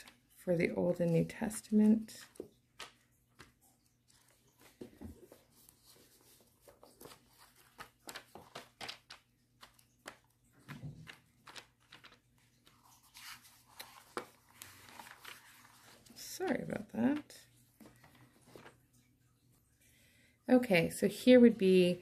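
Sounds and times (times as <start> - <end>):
book pages being flipped: 0.0 - 19.0.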